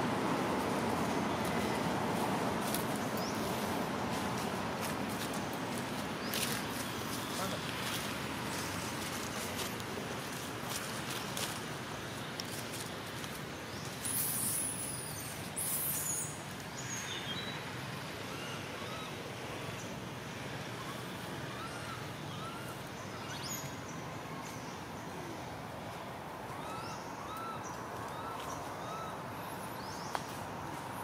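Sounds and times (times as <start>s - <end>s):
steady noisy background: 0.0s - 31.0s.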